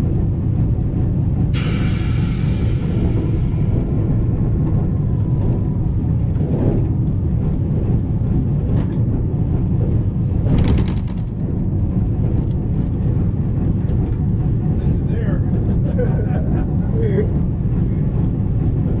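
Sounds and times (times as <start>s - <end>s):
diesel locomotive rumbling: 0.0s - 19.0s
rush of noise: 1.4s - 19.0s.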